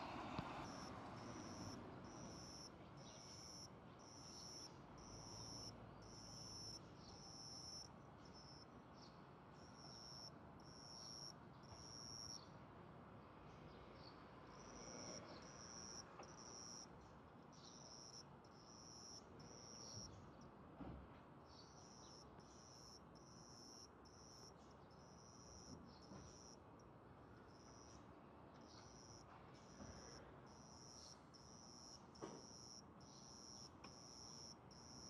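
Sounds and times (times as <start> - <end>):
cricket chirping: 0.0 - 8.7, 9.6 - 12.6, 14.1 - 20.5, 21.6 - 28.0, 28.6 - 35.0.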